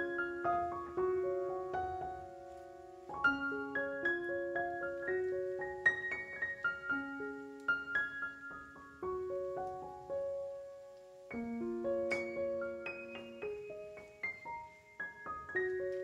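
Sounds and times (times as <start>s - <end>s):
slow solo piano melody: 0.0s - 16.0s.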